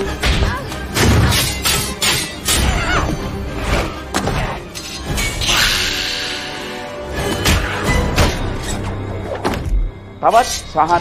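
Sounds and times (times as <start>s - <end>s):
action film music: 0.0s - 11.0s.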